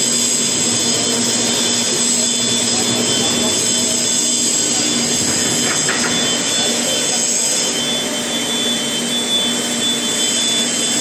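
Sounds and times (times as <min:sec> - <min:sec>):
steady mechanical hiss: 0:00.0 - 0:11.0
thin high tone: 0:01.1 - 0:11.0.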